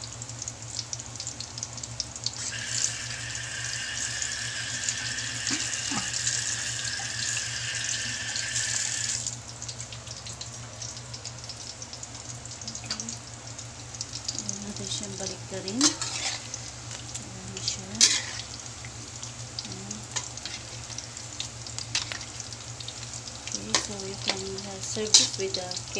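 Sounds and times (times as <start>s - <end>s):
patties sizzling in oil: 0.0s - 25.9s.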